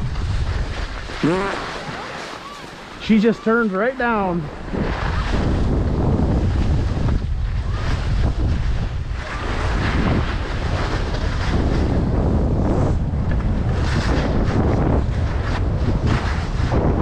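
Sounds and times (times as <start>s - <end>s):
skis scraping on packed snow: 0.0s - 16.9s
wind buffeting microphone: 0.0s - 17.0s.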